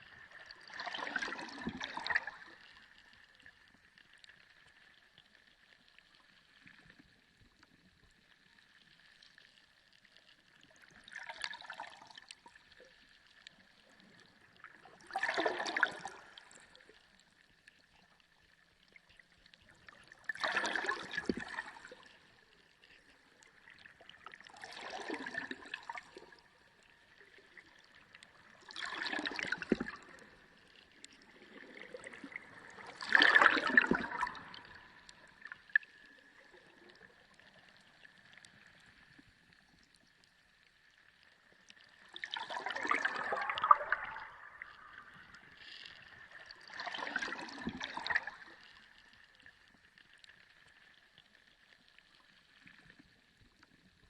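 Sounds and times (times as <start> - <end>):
underwater water surges: 0.0 - 54.0.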